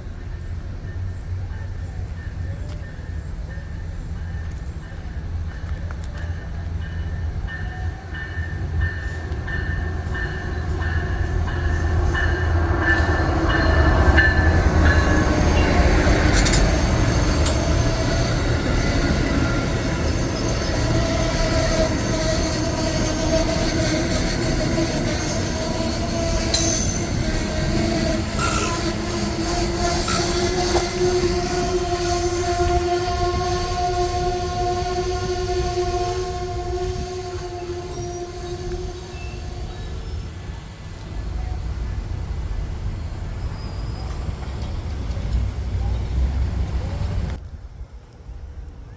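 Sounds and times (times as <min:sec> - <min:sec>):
passenger train rumbling past: 0:00.0 - 0:48.9.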